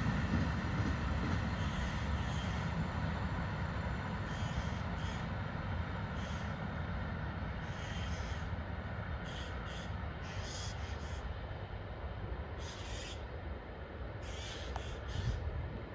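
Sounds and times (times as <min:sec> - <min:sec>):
freight train rumbling: 0:00.0 - 0:15.9.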